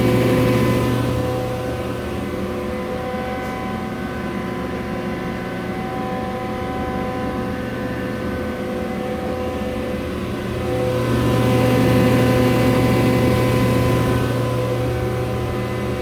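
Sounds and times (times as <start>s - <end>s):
exhaust fan motor hum: 0.0s - 16.0s.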